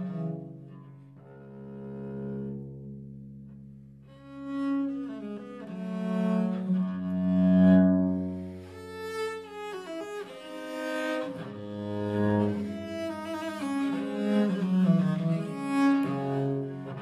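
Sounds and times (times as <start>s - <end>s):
bowed bass viol: 0.0s - 17.0s.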